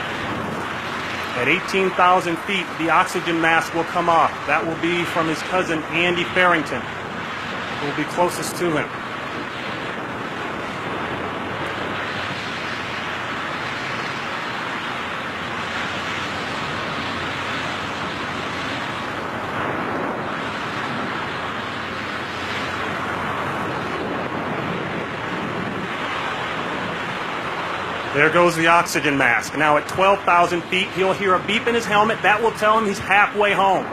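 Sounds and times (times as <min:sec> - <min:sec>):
rushing wind of freefall: 0:00.0 - 0:33.9.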